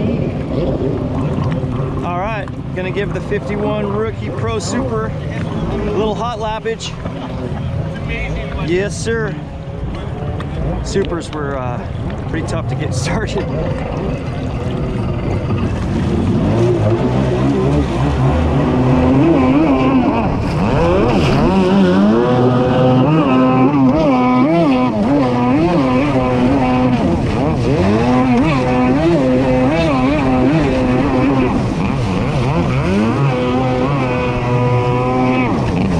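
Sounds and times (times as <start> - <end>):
jet ski engine revving: 0.0 - 35.9.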